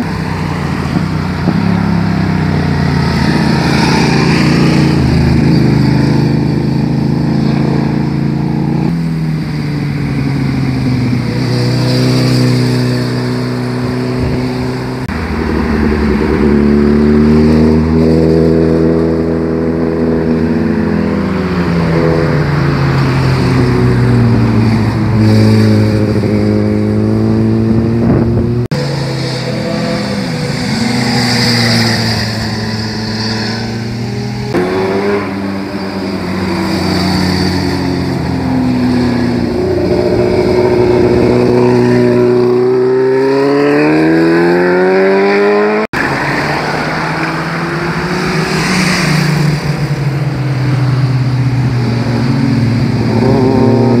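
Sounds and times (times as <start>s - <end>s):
motorcycle engines passing: 0.0s - 54.0s.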